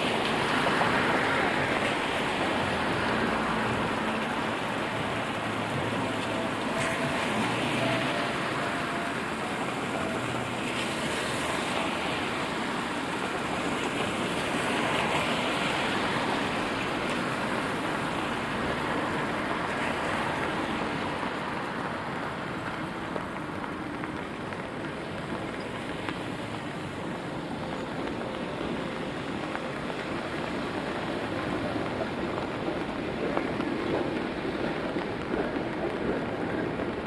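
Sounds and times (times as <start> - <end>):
car tyres hissing on wet road: 0.0 - 37.0
steady rain on street: 0.0 - 37.0.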